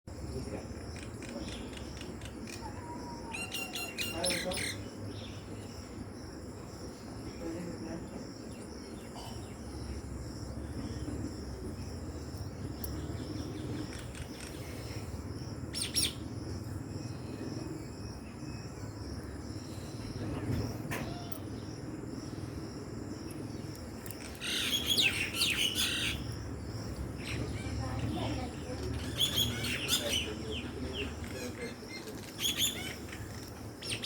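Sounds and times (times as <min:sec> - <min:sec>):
birds chirping: 0:00.1 - 0:34.0
low background hum: 0:00.1 - 0:34.0.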